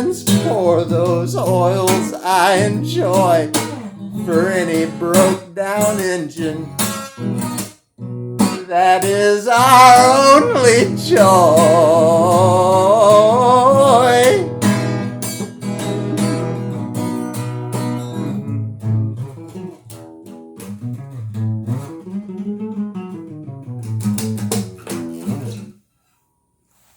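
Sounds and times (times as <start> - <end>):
guitar strumming chords: 0.0 - 25.7.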